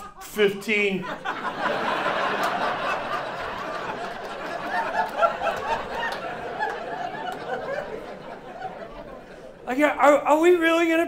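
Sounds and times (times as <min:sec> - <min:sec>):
audience laughing: 0:00.0 - 0:09.7.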